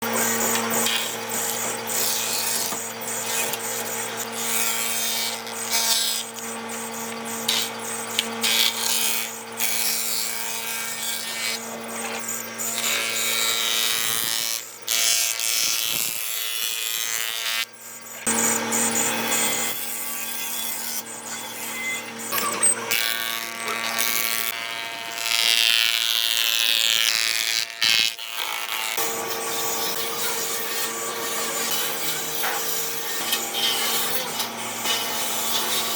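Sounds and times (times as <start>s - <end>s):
power tool motor hum: 0.0s - 35.9s
wood rasping and sanding: 0.0s - 35.9s.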